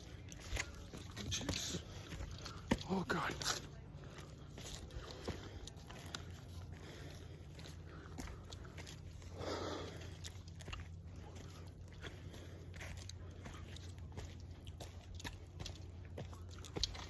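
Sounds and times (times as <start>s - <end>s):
footsteps crunching on trail: 0.0s - 17.0s.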